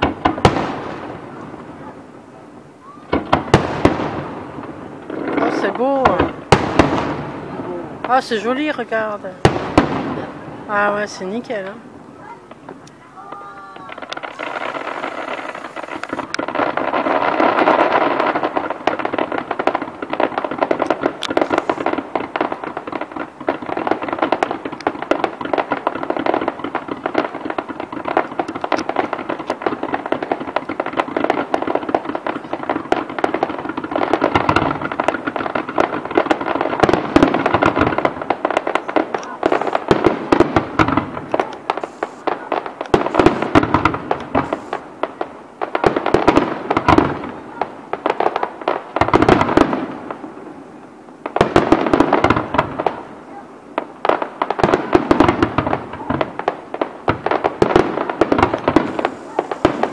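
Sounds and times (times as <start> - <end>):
fireworks crackling: 0.0 - 59.9
heavy fireworks bangs: 0.0 - 59.9.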